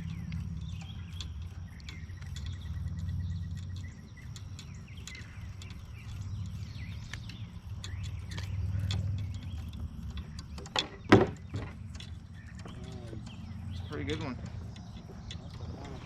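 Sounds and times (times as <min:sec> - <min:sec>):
steady low rumble: 0:00.0 - 0:16.0
wild birds chirping: 0:00.0 - 0:16.0.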